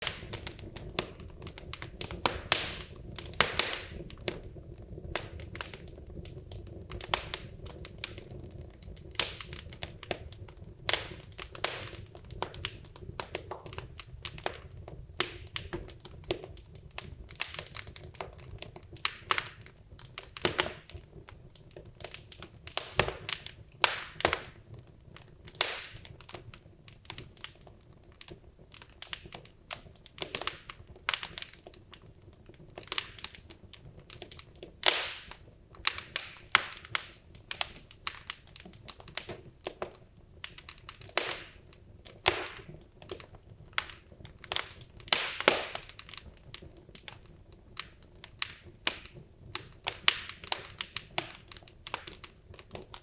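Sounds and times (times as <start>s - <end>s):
logs crackling in fireplace: 0.0s - 53.0s.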